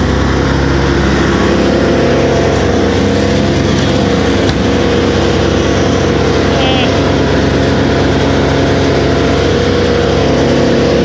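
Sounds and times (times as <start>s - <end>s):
brush chipper running: 0.0s - 11.0s.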